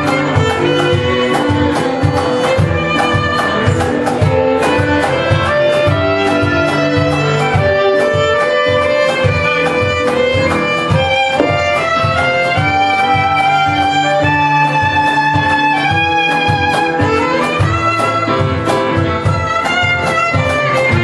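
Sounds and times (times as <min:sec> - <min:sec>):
folk band playing: 0:00.0 - 0:21.0
violin sliding melody: 0:00.0 - 0:21.0.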